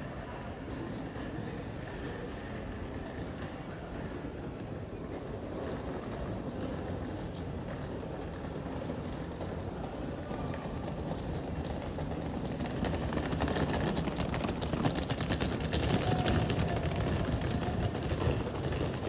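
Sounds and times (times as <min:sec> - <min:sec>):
street rumble: 0:00.0 - 0:19.0.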